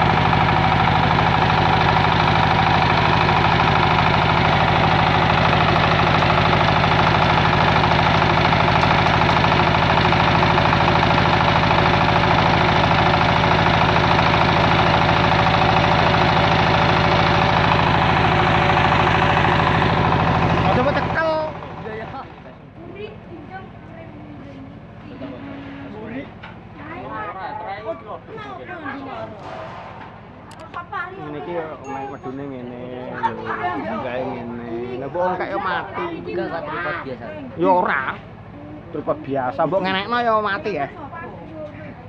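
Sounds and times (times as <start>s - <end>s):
generator engine running: 0.0s - 42.0s.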